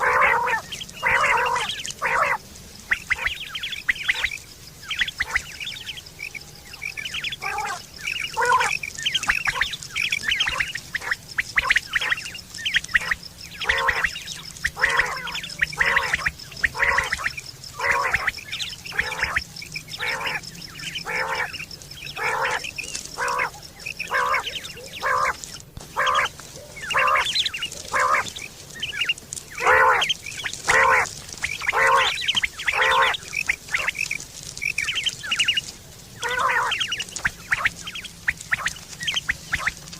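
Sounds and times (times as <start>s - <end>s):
quail call: 0.0s - 39.9s.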